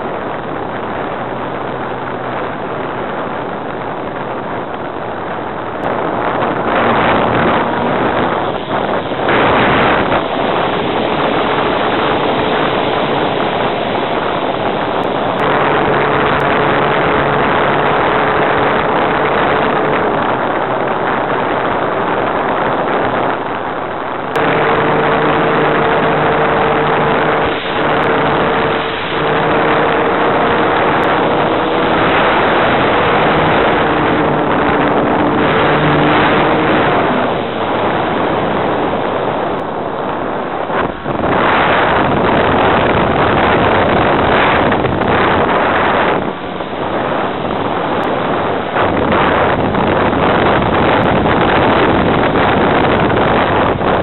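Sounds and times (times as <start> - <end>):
electric motor and propeller whine: 0.0 - 23.4, 24.0 - 54.0
wind rush on microphone: 0.0 - 54.0.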